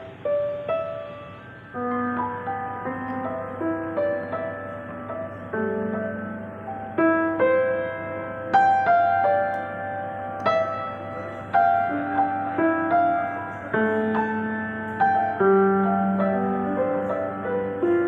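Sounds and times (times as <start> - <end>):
slow piano piece: 0.0 - 18.0.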